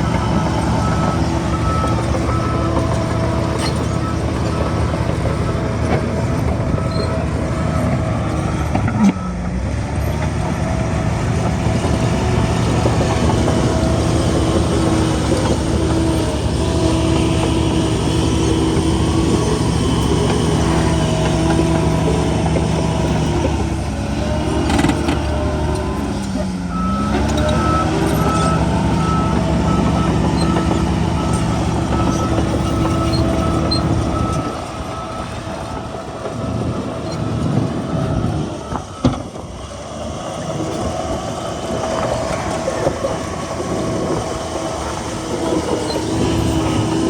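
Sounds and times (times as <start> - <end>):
diesel machinery running: 0.0 - 47.0
reversing alarm beeping: 0.0 - 47.0.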